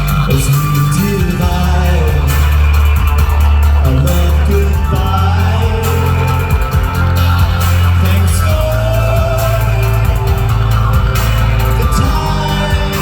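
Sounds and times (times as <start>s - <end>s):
live band playing loud song: 0.0s - 13.0s
person singing: 0.0s - 13.0s.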